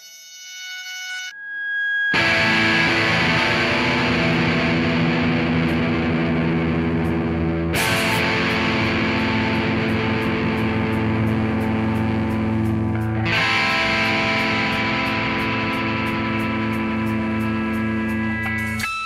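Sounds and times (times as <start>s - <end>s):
distorted electric guitar music: 2.1s - 19.0s.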